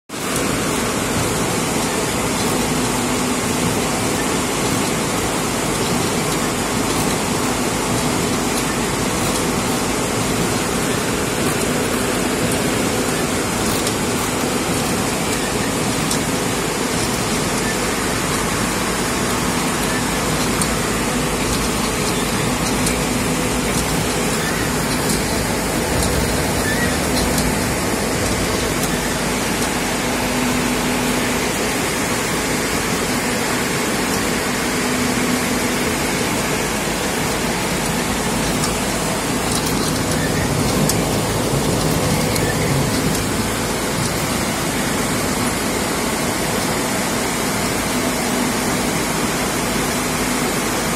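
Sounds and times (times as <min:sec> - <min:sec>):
cloth folding machine humming: 0:00.1 - 0:50.9.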